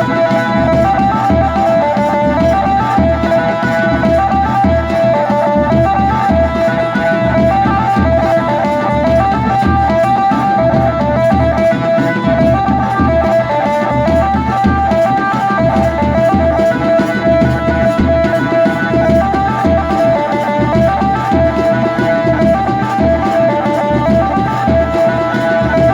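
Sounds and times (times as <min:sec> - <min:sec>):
band melody: 0:00.0 - 0:25.9
steady drum beat: 0:00.0 - 0:25.9.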